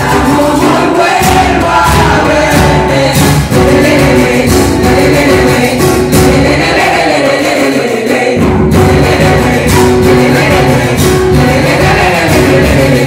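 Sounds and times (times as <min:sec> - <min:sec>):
acoustic guitar: 0:00.0 - 0:13.0
mixed chorus singing: 0:00.0 - 0:13.0.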